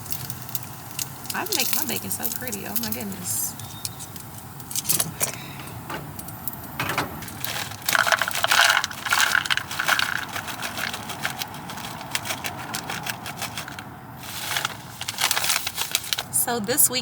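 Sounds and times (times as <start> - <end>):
bacon sizzling and popping: 0.0 - 17.0.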